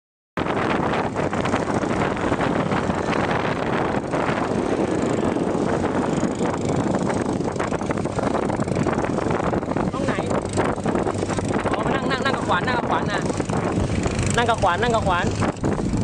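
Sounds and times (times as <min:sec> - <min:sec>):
boat engine running: 0:00.4 - 0:16.0
wind buffeting microphone: 0:00.4 - 0:16.0.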